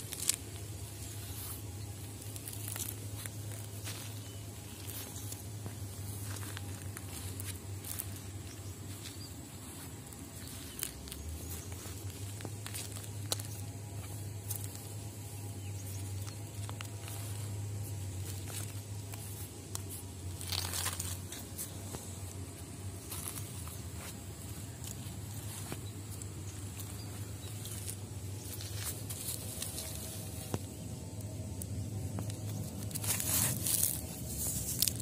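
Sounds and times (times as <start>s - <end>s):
footsteps on gravel: 0.0s - 30.9s, 31.9s - 35.0s
rustle: 0.0s - 35.0s.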